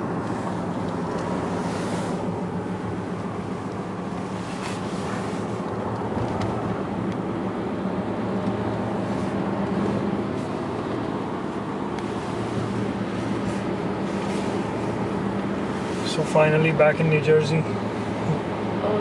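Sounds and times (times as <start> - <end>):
car engine and tyres hum: 0.0 - 19.0.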